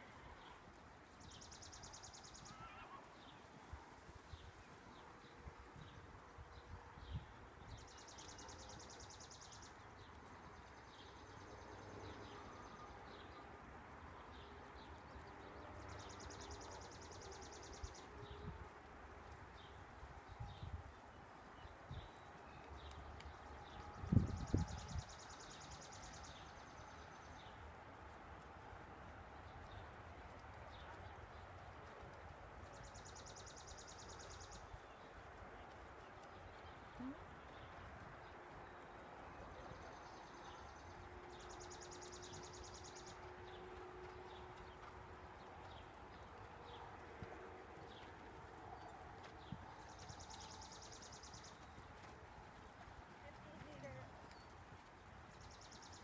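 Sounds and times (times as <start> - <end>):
faint background noise: 0.0 - 56.0.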